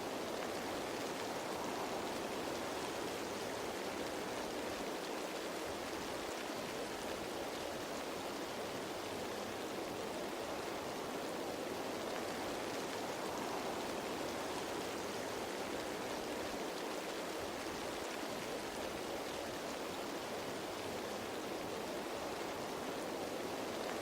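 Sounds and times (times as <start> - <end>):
rain on leaves: 0.0 - 24.0.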